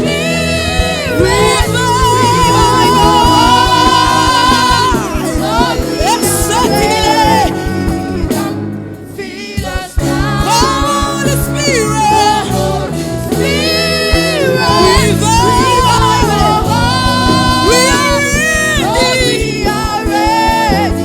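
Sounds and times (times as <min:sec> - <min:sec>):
gospel singers: 0:00.0 - 0:21.0
keyboard bass and drums: 0:00.0 - 0:21.0.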